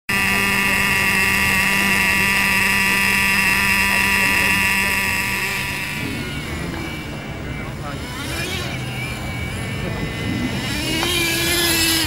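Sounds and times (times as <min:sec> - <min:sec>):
toy car electric motor whine: 0:00.1 - 0:12.0.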